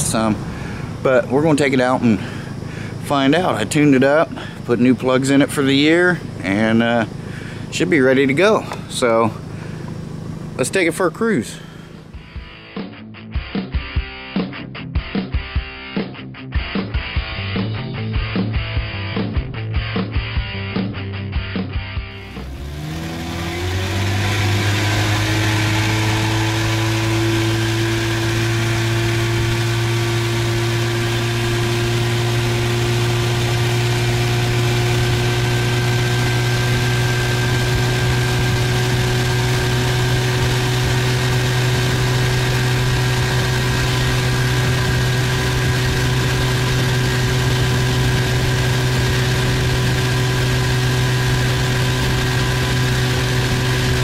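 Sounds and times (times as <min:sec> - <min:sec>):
outboard motor running: 0:00.0 - 0:12.6, 0:22.1 - 0:54.0.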